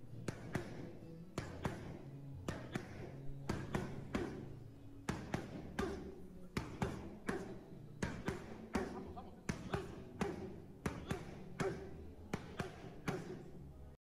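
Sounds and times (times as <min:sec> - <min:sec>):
boxing gloves hitting mitts: 0:00.1 - 0:13.9.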